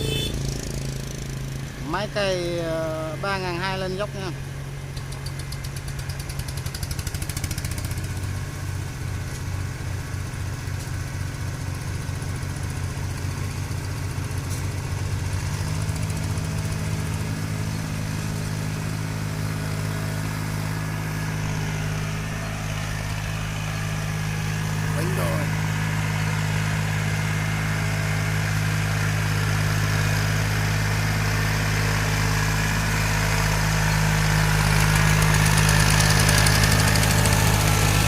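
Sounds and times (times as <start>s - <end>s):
tractor engine under load: 0.0s - 38.0s.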